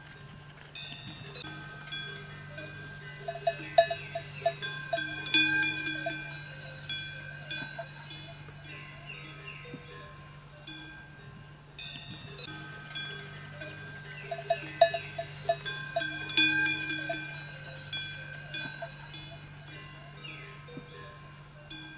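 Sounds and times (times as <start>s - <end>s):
livestock bells clanking: 0.0s - 21.9s.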